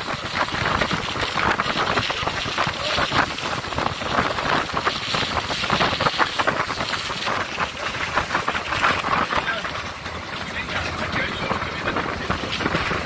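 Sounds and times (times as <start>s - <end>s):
fast irregular crackling: 0.0s - 13.0s
wind and road noise: 0.0s - 13.0s.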